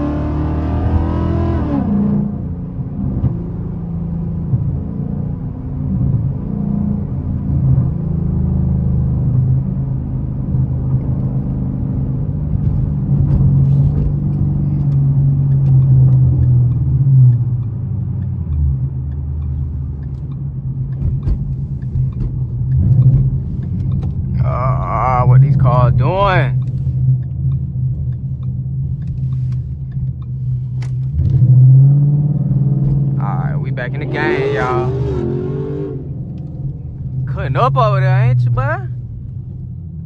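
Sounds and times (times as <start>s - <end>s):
car engine droning in cabin: 0.0s - 40.0s.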